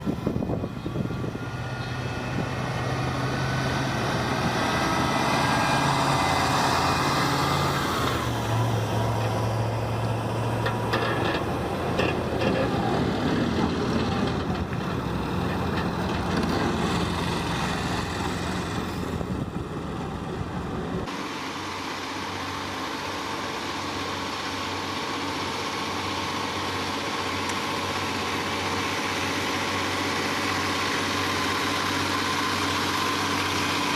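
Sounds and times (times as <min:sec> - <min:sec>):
heavy vehicle engines running: 0:00.0 - 0:33.9.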